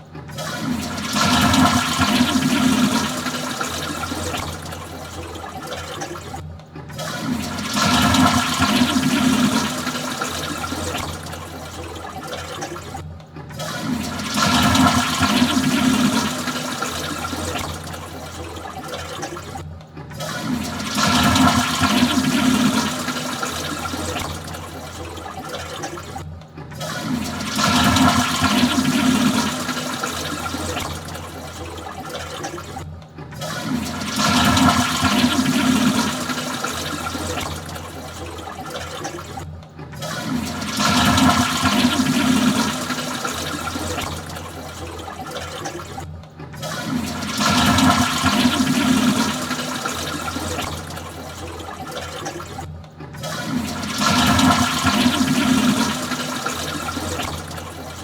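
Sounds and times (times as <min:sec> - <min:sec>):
toilet flushing: 0:00.0 - 0:58.0.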